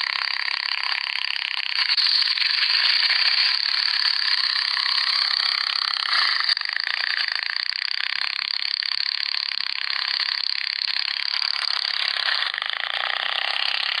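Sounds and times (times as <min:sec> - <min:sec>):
vehicle engine buzzing: 0:00.0 - 0:14.0.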